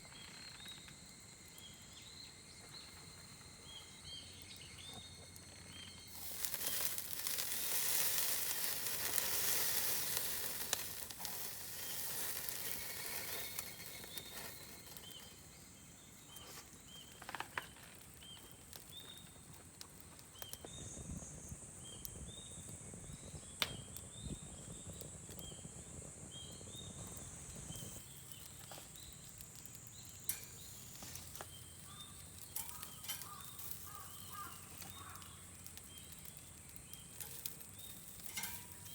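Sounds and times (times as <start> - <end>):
food sizzling on a hot pan: 5.4 - 38.9.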